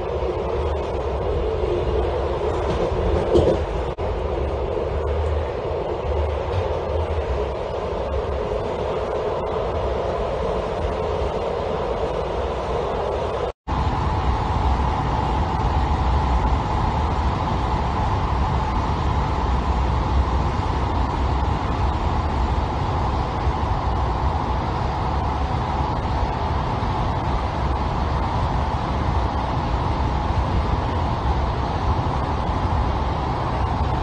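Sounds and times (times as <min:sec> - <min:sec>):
passenger train rumbling: 0:00.0 - 0:34.0.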